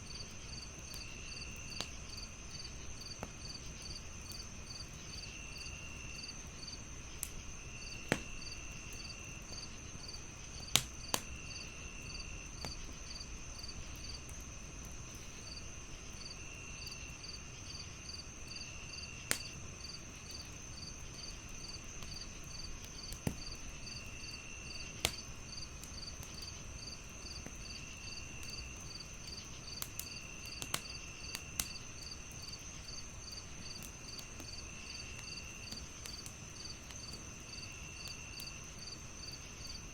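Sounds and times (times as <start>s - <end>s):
fire popping: 0.0s - 17.1s, 17.7s - 39.9s
crickets chirping: 0.0s - 39.9s
wood fire crackling: 0.0s - 39.9s.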